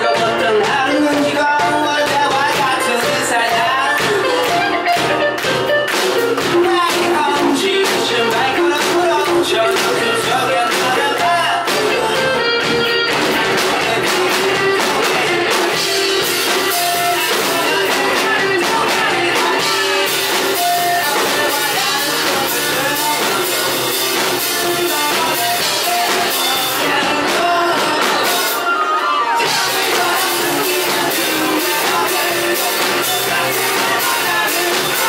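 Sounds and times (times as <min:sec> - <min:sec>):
man singing: 0:00.0 - 0:05.6, 0:06.2 - 0:35.0
bass: 0:00.0 - 0:35.0
drum kit: 0:00.0 - 0:35.0
electric guitar: 0:00.0 - 0:35.0.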